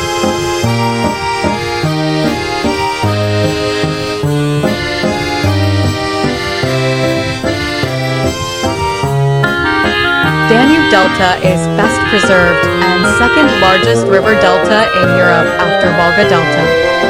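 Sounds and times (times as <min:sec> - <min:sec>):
accordion playing lively tune: 0:00.0 - 0:17.0.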